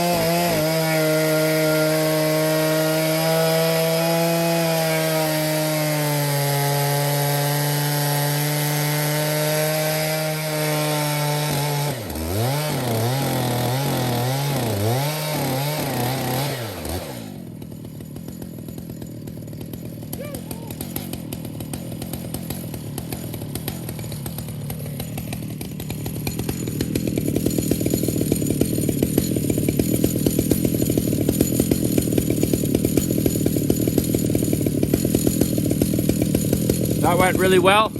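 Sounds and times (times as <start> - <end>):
chainsaw cutting log: 0.0 - 37.9.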